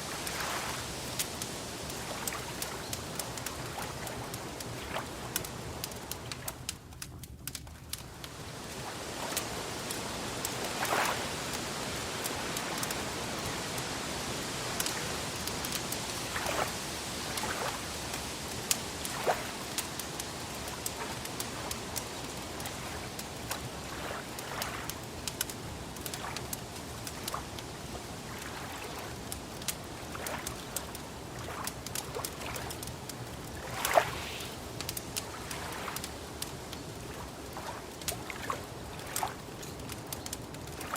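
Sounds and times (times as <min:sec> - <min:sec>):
fire crackling: 0:00.0 - 0:40.9
lake water washing: 0:00.0 - 0:40.9.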